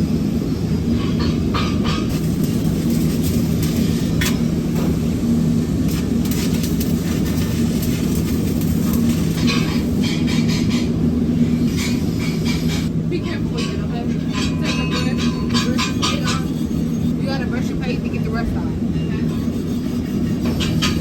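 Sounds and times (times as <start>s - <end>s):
low machinery drone: 0.0s - 21.0s.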